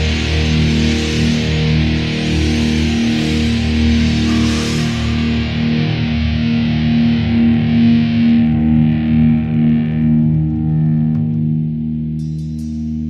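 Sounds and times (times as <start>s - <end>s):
distorted electric guitar chord: 0.0s - 13.0s.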